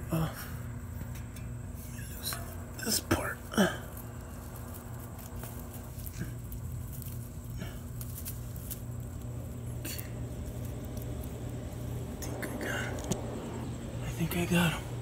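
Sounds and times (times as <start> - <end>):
steady low hum: 0.0 - 15.0
rustling in grass: 0.6 - 15.0.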